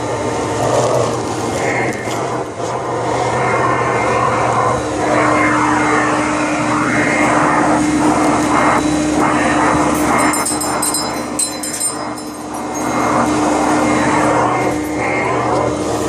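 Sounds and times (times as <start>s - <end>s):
steady hum: 0.0s - 16.0s
vacuum cleaner air rush: 0.0s - 16.0s.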